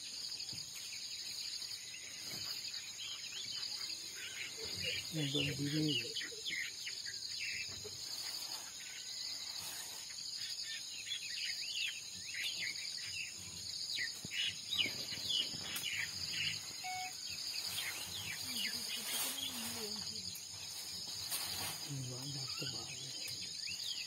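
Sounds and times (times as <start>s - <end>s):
birds chirping: 0.0s - 24.0s
high insect drone: 0.0s - 24.0s.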